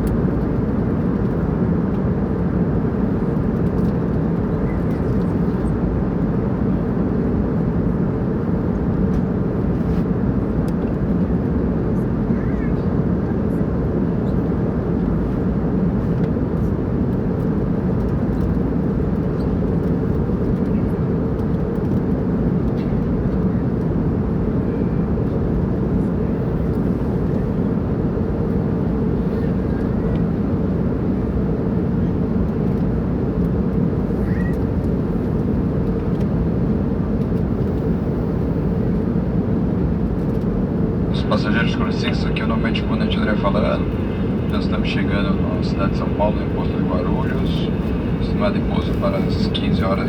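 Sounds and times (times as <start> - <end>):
airliner cabin drone: 0.0 - 50.0.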